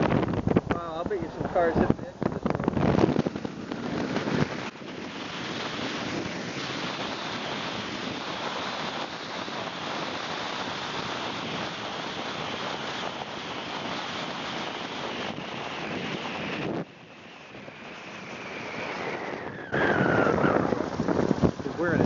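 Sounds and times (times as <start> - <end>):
wind rushing: 0.0 - 22.0
tyre noise on wet road: 2.2 - 22.0.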